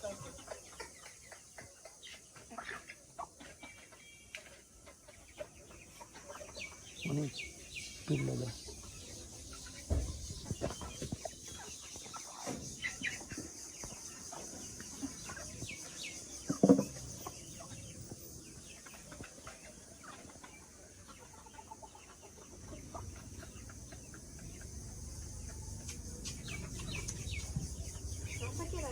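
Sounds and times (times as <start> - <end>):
chickens clucking: 0.0 - 28.9.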